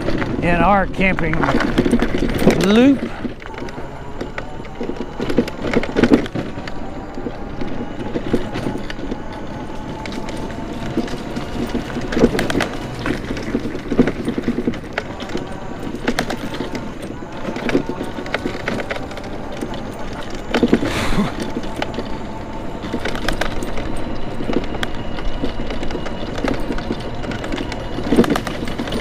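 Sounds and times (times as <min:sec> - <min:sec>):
faint motor whine: 0:00.0 - 0:29.0
scooter rattling over bumps: 0:00.0 - 0:29.0.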